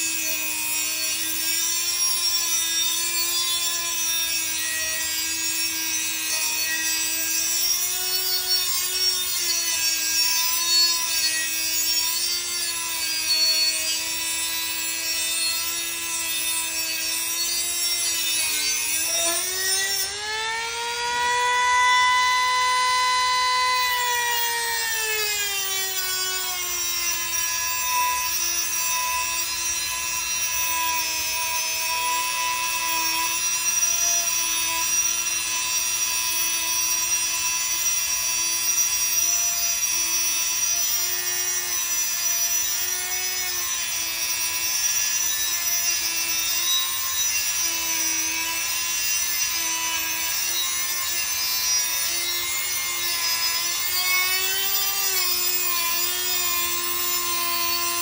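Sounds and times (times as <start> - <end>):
rotary tool grinding metal: 0.0 - 58.0.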